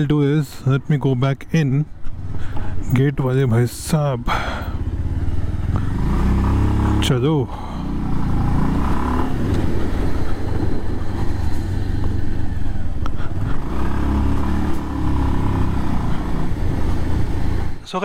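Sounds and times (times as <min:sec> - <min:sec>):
motorcycle engine at low speed: 0:01.8 - 0:17.9.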